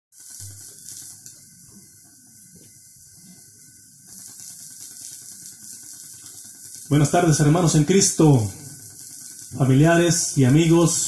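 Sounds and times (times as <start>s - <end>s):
high recording hiss: 0.1s - 11.0s.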